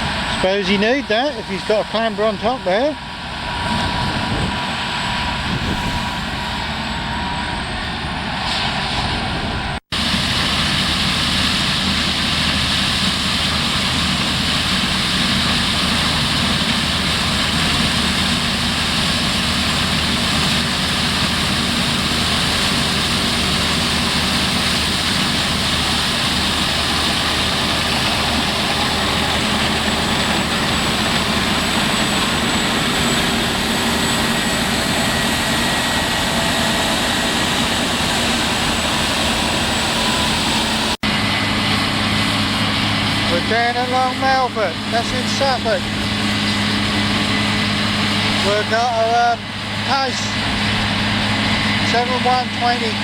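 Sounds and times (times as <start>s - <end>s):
combine harvester drone: 0.0s - 53.0s.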